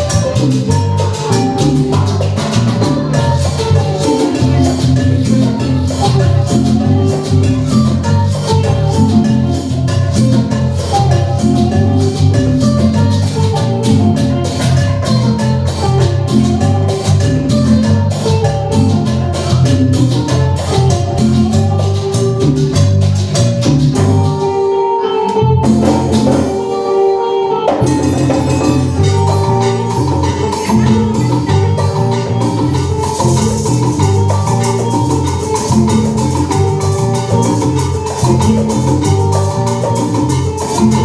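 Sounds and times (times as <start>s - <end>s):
band playing cumbia: 0.0s - 41.0s.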